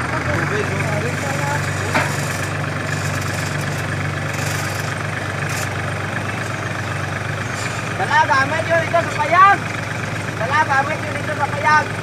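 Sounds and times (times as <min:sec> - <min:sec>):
harvester engine humming: 0:00.0 - 0:12.0.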